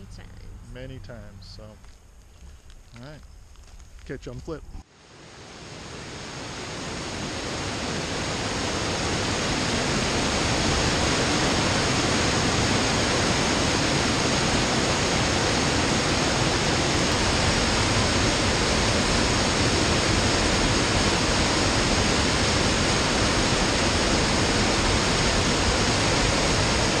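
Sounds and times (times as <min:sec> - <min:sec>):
creek rushing over boulders: 0:05.1 - 0:27.0.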